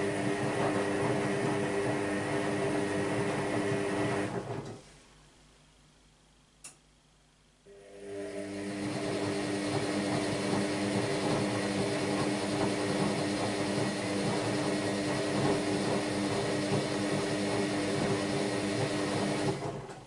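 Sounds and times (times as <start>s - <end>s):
washing machine motor hum: 0.0s - 4.9s, 7.7s - 20.0s.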